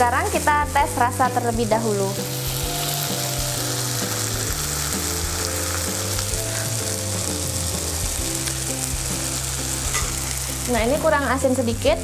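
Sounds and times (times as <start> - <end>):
food sizzling in oil in a wok: 0.0 - 12.0.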